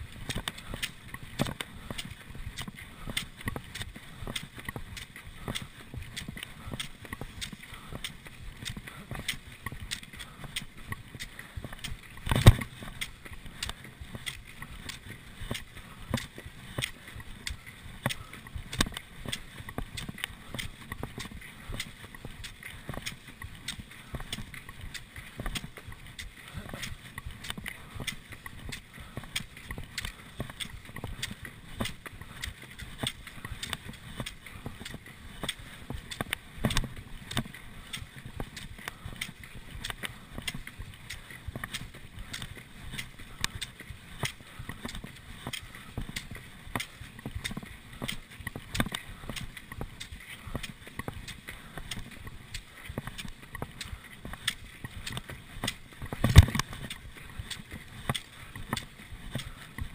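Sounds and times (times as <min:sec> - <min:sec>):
ski poles clicking in snow: 0:00.0 - 0:59.9.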